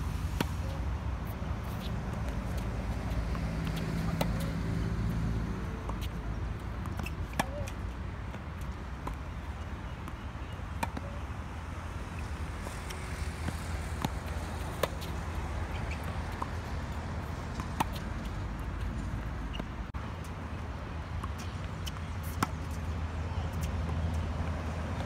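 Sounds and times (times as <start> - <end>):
tennis ball bouncing: 0.4 - 11.3, 11.9 - 19.7, 21.1 - 24.2.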